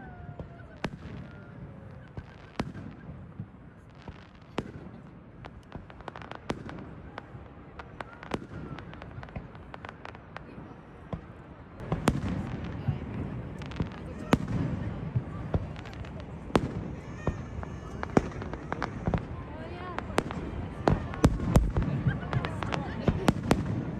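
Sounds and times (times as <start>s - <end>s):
fireworks cracking and popping: 0.0s - 23.9s.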